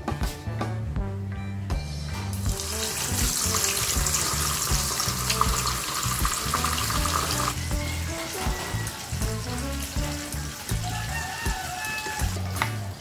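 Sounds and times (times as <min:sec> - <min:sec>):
background music: 0:00.0 - 0:13.0
fish sizzling in hot oil: 0:02.3 - 0:13.0.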